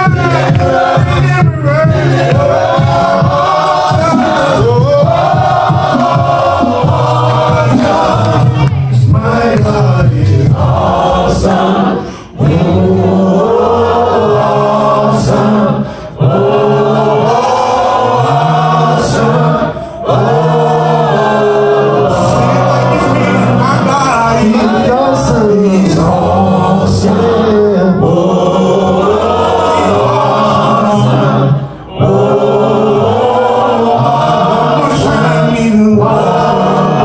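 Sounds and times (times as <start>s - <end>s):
men singing in close harmony: 0.0s - 37.0s.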